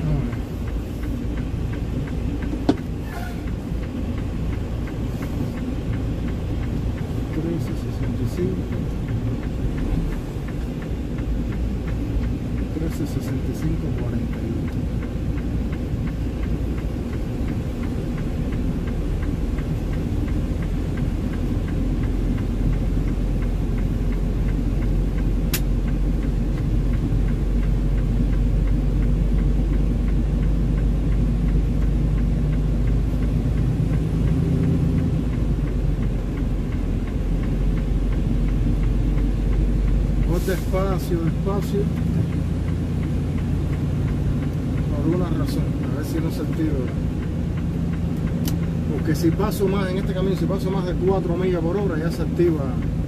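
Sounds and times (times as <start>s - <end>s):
diesel engine rumbling: 0.0s - 53.0s.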